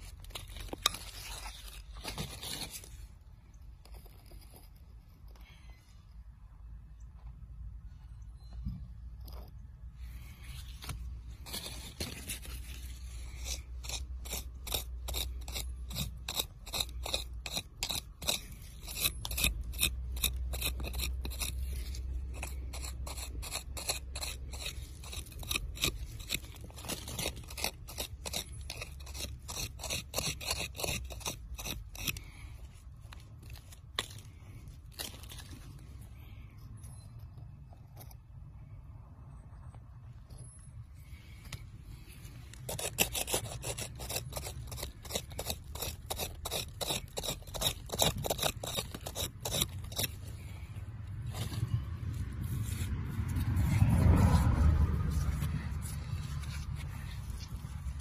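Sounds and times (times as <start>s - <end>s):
hand scraping sandy soil: 0.0s - 5.8s, 9.3s - 36.7s, 41.0s - 58.0s.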